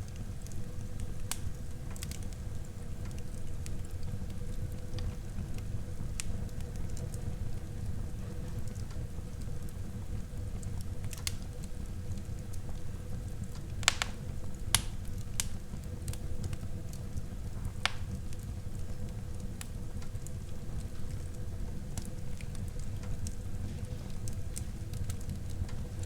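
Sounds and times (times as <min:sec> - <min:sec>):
fire crackles and pops: 0:00.0 - 0:26.0
low rumble of flames: 0:00.0 - 0:26.0.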